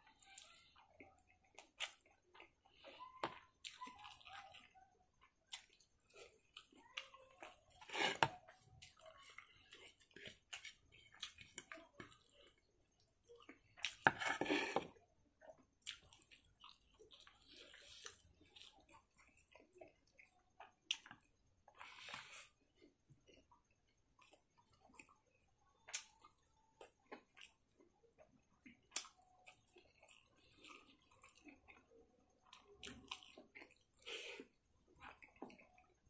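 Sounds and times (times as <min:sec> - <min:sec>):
wet chewing and smacking: 0:00.2 - 0:14.1, 0:14.9 - 0:36.0.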